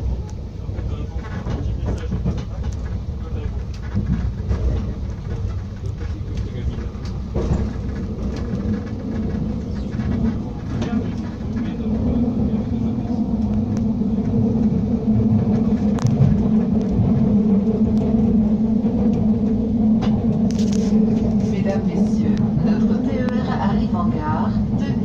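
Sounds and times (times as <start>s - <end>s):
train rumbling: 0.0s - 25.0s
low hum: 3.2s - 25.0s.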